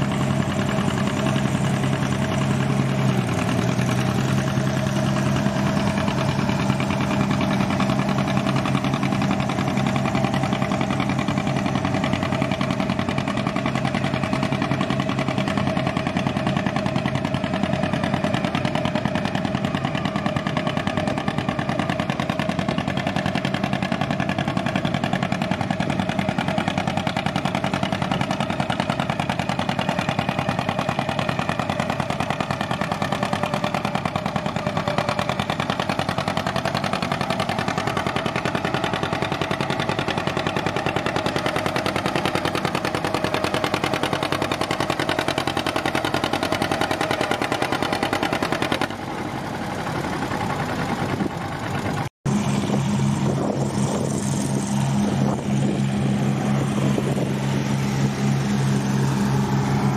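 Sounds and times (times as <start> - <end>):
tractor engine humming: 0.0 - 59.9
tractor engine under load: 0.0 - 59.9.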